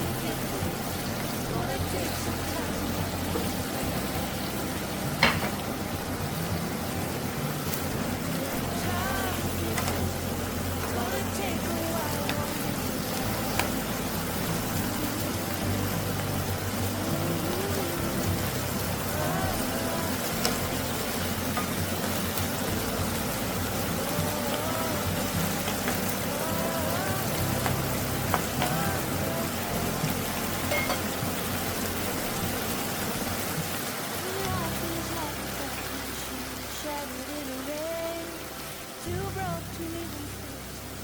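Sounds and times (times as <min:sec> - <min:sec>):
background music: 0:00.0 - 0:41.0
food sizzling in a frying pan: 0:00.0 - 0:41.0.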